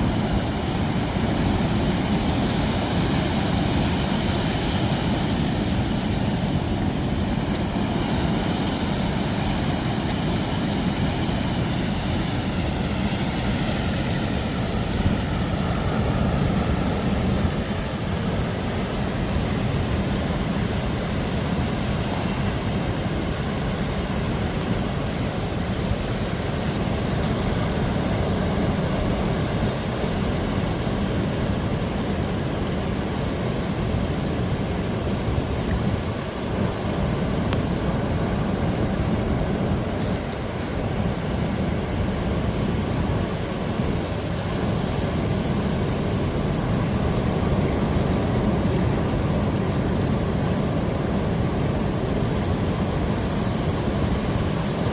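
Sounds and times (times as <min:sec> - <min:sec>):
ocean surf: 0:00.0 - 0:54.9
rain on microphone: 0:00.0 - 0:54.9.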